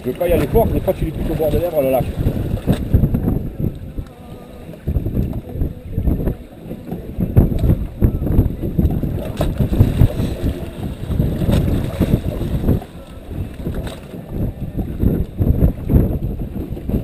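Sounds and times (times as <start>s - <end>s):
water slapping boat hull: 0.0s - 17.0s
wind buffeting microphone: 0.0s - 17.0s.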